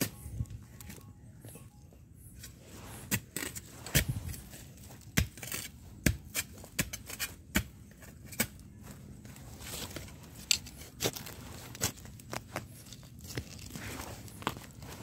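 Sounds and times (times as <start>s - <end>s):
hand scraping dry soil: 2.2s - 15.0s.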